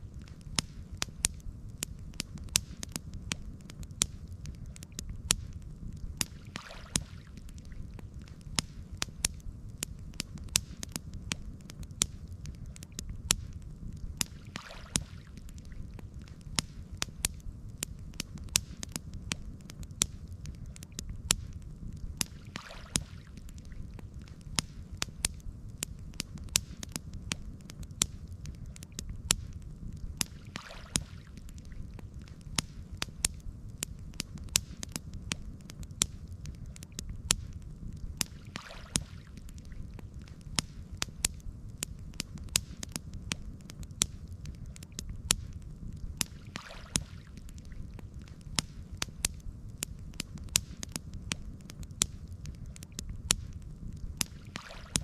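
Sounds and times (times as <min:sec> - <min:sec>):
campfire crackling and popping: 0:00.0 - 0:55.0
low rumble of burning fire: 0:00.0 - 0:55.0.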